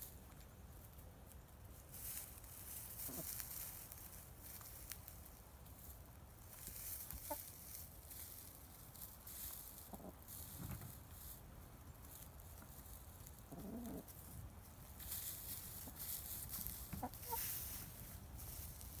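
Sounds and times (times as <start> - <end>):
hens scratching in dry straw: 0.0 - 19.0
hens clucking: 1.9 - 4.9, 6.5 - 19.0.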